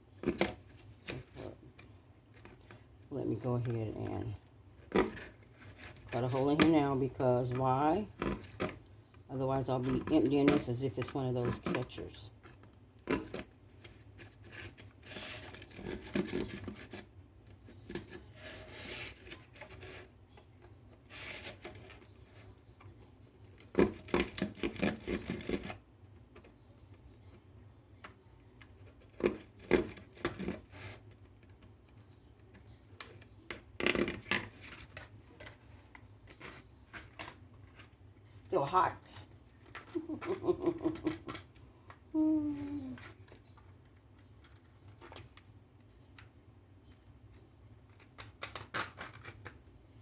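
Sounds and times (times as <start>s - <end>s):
plastic scraping and clicking: 0.1s - 38.1s, 39.2s - 49.8s.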